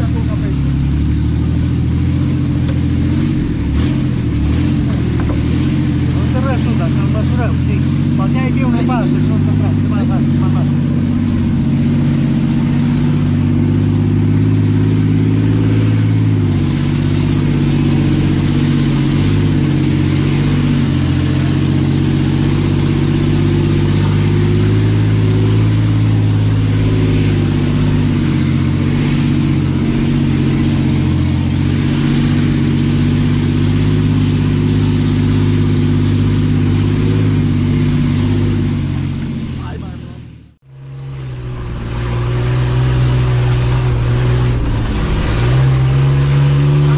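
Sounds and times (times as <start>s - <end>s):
vehicle engine running: 0.0s - 46.9s.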